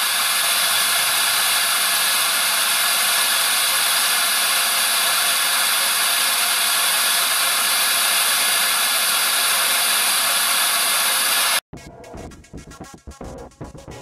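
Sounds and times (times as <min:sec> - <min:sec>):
compressed air hissing: 0:00.0 - 0:11.6.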